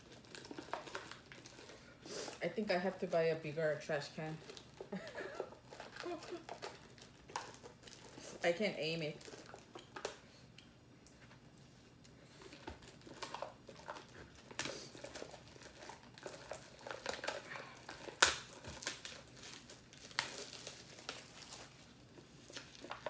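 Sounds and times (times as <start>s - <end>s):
plastic packaging crinkling: 0.0s - 10.2s, 11.4s - 23.0s.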